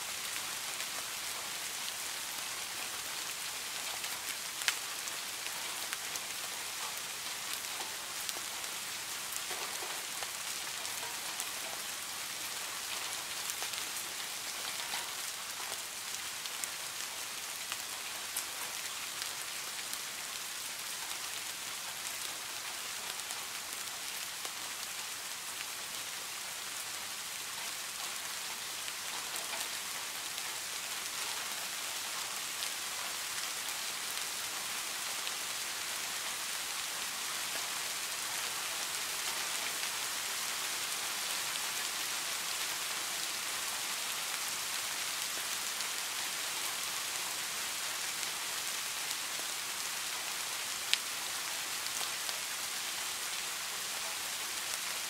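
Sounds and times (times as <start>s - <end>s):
rain falling on pond water: 0.0s - 55.0s.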